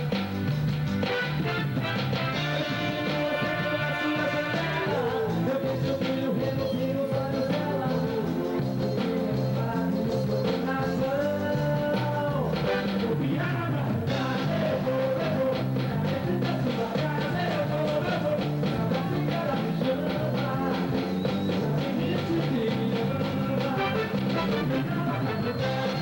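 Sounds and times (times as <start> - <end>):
band playing music: 0.0 - 26.0
repeating bass line: 0.0 - 26.0
steady drum beat: 0.0 - 26.0.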